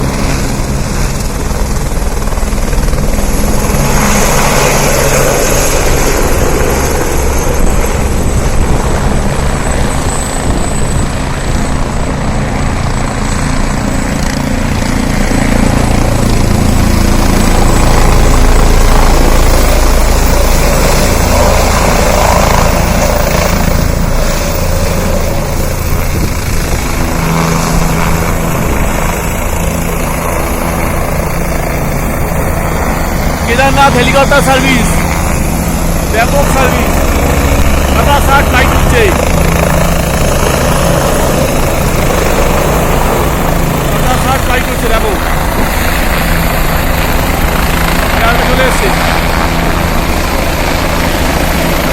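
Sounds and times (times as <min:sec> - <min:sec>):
helicopter rotor and engine: 0:00.0 - 0:51.9.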